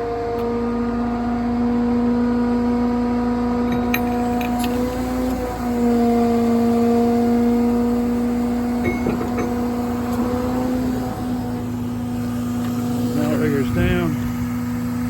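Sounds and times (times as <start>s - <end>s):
diesel engine idling: 0.0s - 15.0s
hydraulic pump whine: 0.0s - 15.0s.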